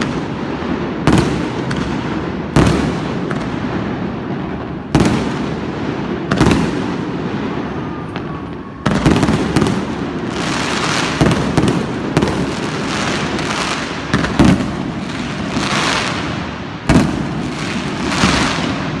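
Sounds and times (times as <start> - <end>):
firework bangs: 0.0 - 19.0
fireworks crackling: 0.0 - 19.0.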